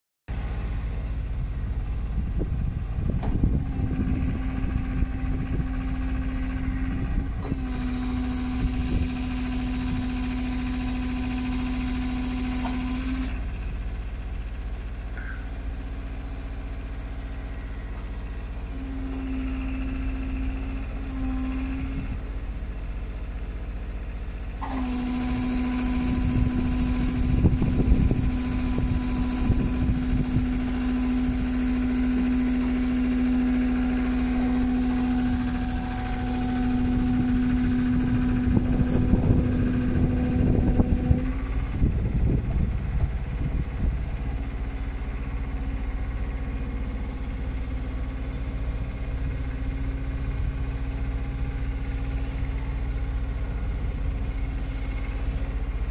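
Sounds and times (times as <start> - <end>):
engine running: 0.3 - 55.9
hydraulic whine: 0.3 - 55.9.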